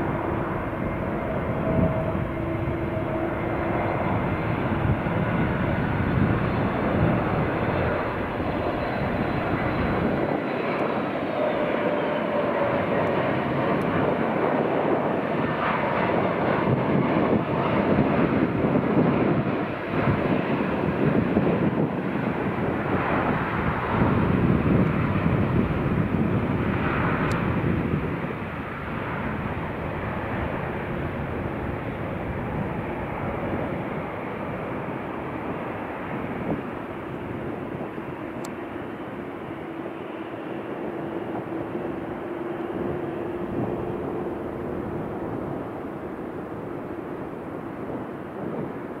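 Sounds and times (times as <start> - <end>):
jet engine noise: 0.0 - 49.0.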